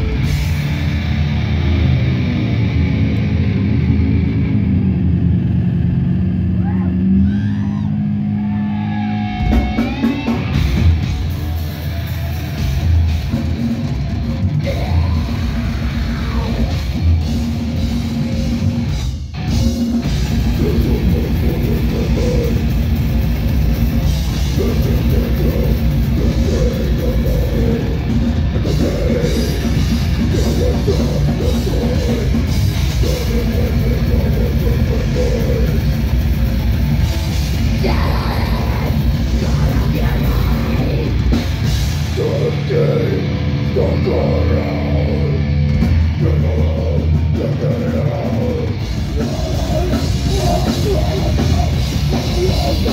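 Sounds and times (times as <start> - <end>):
pounding drum kit: 0.0 - 6.8, 9.1 - 52.9
distorted electric guitars: 0.0 - 52.9.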